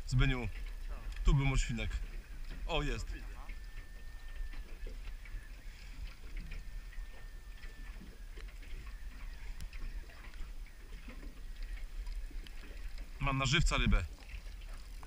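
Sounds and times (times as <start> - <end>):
wind and sea rumble: 0.0 - 15.0
faint ticks: 0.1 - 15.0
faint thin steady tone: 0.4 - 13.0.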